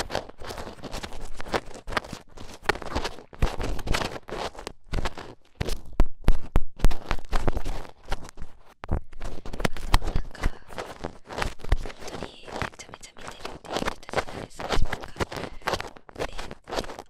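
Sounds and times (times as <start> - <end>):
earpick scraping microphone: 0.0 - 17.0.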